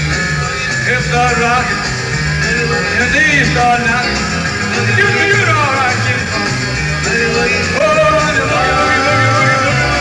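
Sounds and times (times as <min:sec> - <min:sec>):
live country rock band: 0:00.0 - 0:10.0.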